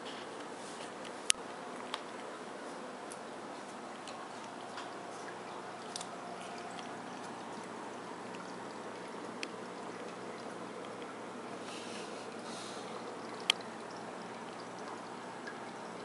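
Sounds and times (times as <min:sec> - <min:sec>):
water trickling into aquarium: 0:00.1 - 0:16.0.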